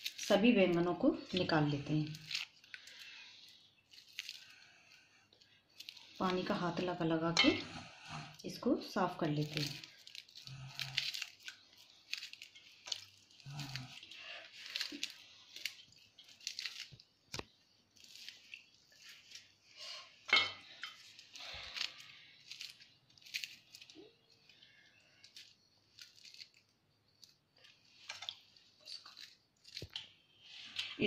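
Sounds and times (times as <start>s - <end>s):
charred skin crackling and rustling: 0.0s - 31.0s.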